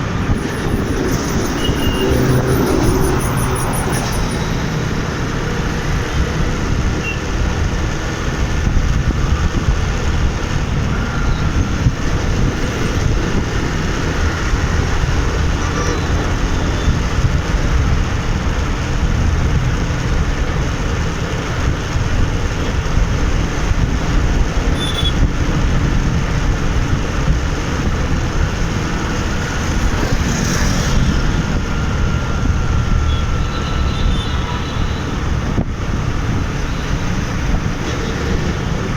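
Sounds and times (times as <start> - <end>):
city traffic rumble: 0.0 - 38.9.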